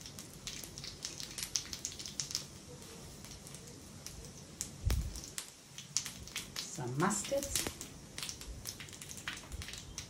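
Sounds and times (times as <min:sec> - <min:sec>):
seeds crackling in hot oil: 0:00.0 - 0:10.0.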